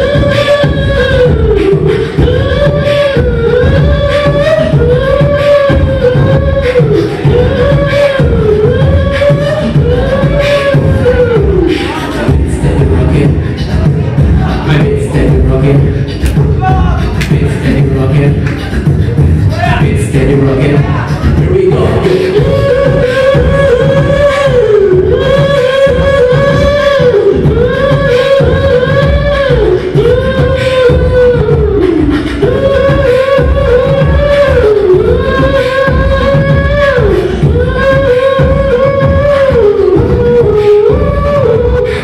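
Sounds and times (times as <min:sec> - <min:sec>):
beatboxing through a pa: 0:00.0 - 0:42.0
woman singing: 0:00.0 - 0:42.0.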